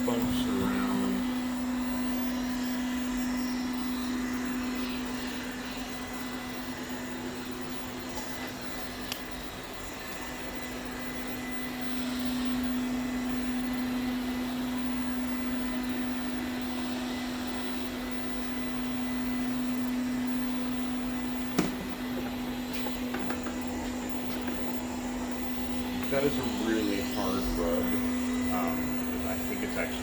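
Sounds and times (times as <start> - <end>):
robot vacuum cleaner humming: 0.0 - 30.0.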